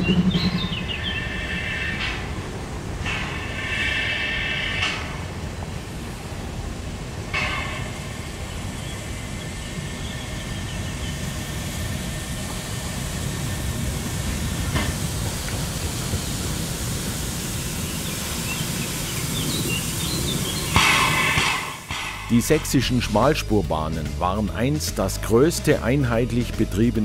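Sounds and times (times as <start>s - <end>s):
steam locomotive rumbling: 0.0s - 27.0s
steam hiss: 1.0s - 23.3s.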